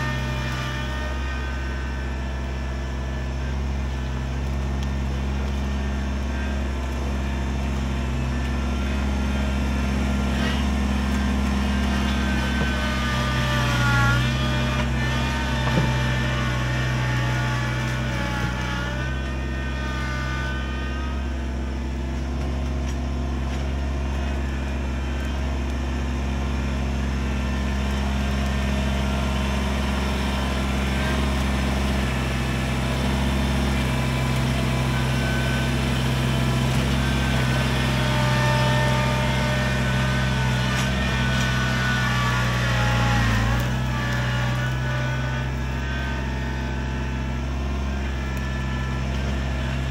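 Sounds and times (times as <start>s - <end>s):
hydraulic whine: 0.0s - 49.9s
tractor diesel engine running: 0.0s - 49.9s.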